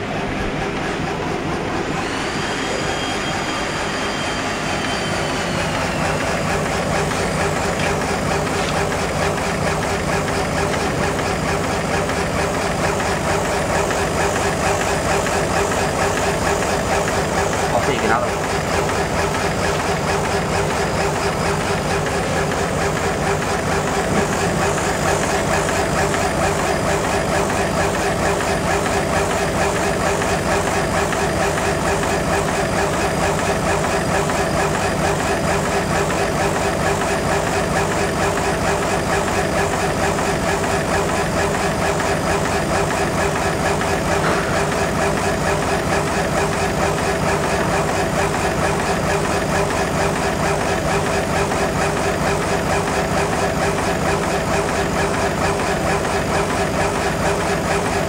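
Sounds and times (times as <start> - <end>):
laser engraver humming: 0.0 - 52.2.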